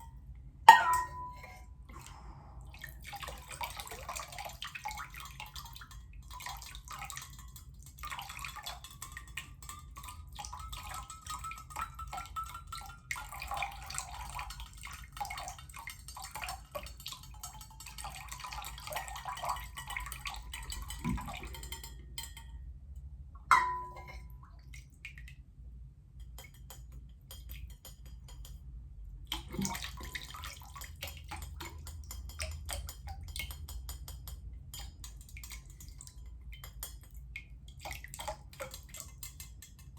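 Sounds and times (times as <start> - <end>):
water trickling into container: 0.2 - 25.5, 26.2 - 39.9
water drips: 0.7 - 25.4, 26.2 - 39.9.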